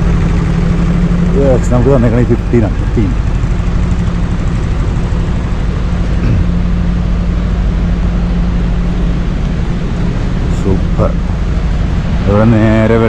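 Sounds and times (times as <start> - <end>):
generator engine humming: 0.0 - 13.0.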